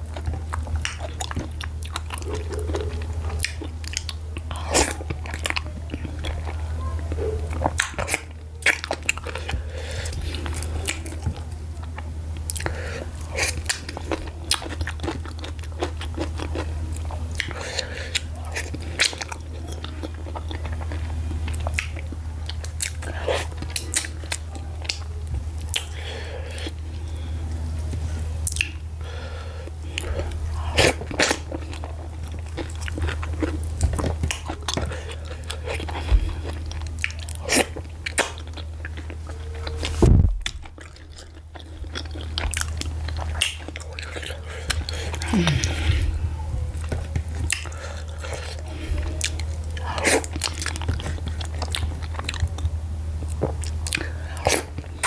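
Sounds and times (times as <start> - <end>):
chewing and lip smacking: 0.0 - 26.8, 27.9 - 28.9, 29.9 - 46.1, 46.7 - 55.0
low hum: 0.0 - 55.0.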